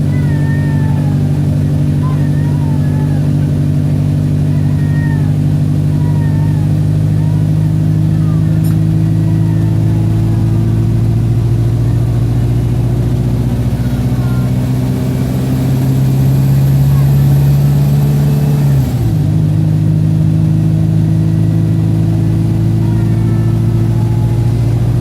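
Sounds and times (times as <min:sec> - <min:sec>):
bus diesel engine droning: 0:00.0 - 0:25.0.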